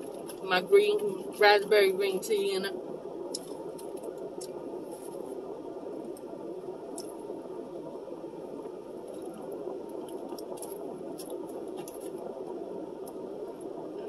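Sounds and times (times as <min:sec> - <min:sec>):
low hum inside car: 0:00.0 - 0:14.0.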